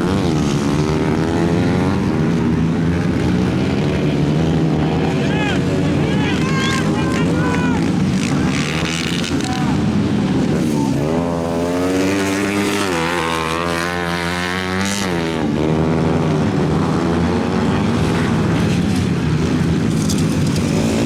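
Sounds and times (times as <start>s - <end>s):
engine revving: 0.0s - 21.0s.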